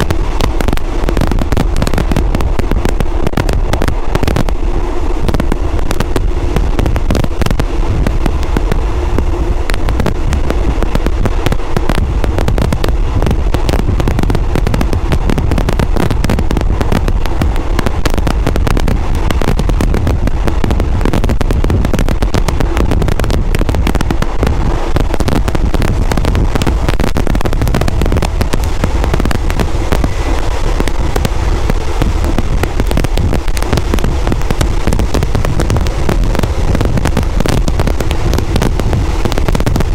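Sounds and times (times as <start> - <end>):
train rattle: 0.0 - 39.9
train rumble: 0.0 - 39.9.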